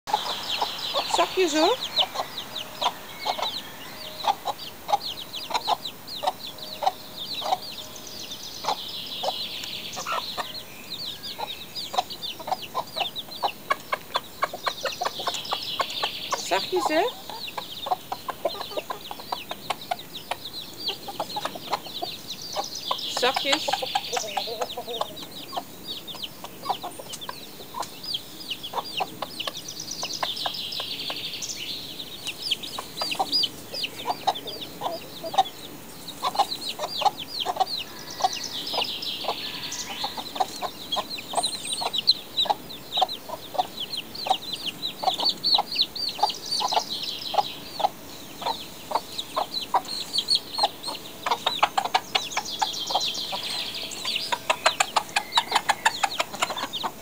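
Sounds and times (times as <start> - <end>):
chick peeping: 0.0 - 57.0
chicken clucking: 0.0 - 57.0.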